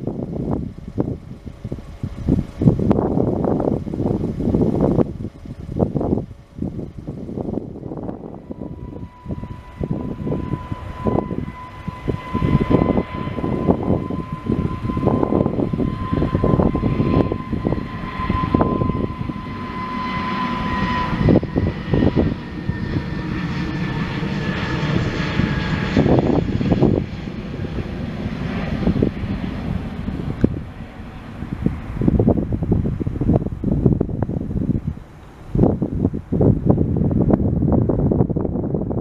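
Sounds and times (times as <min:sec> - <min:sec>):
jet engine whine and rumble: 0:00.0 - 0:39.0
wind buffeting microphone: 0:00.0 - 0:39.0.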